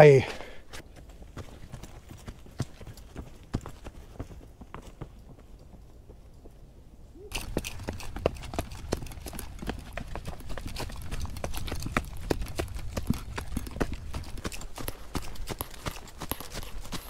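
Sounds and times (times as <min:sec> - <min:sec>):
running footsteps: 0:00.2 - 0:06.2, 0:07.3 - 0:17.0.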